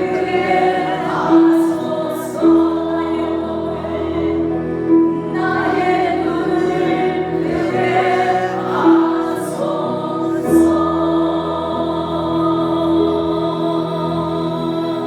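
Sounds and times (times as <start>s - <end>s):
choir singing worship song: 0.0s - 15.0s
sustained accompaniment: 0.0s - 15.0s.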